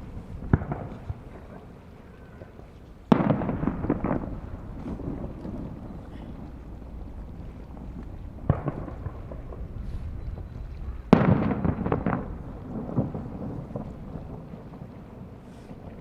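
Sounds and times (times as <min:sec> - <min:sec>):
fireworks bursting: 0:00.0 - 0:02.0, 0:03.1 - 0:16.0
crackling and rumbling echo: 0:00.0 - 0:16.0
wind rumble on microphone: 0:00.0 - 0:16.0.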